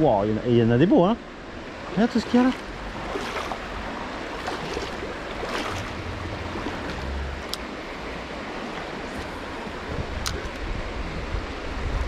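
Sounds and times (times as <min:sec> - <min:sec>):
flowing river water: 0:00.0 - 0:12.0
wind rumble on microphone: 0:01.4 - 0:12.0.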